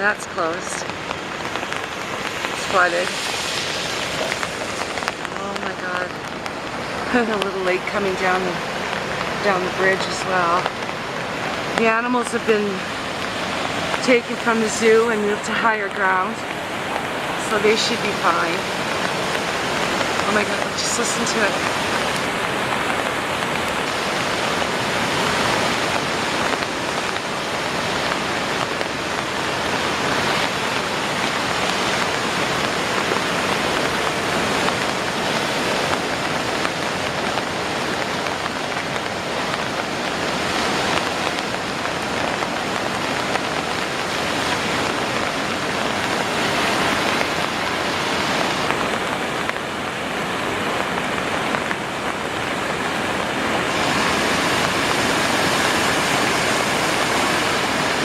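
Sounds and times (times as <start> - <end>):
fast river water rushing: 0.0 - 58.0.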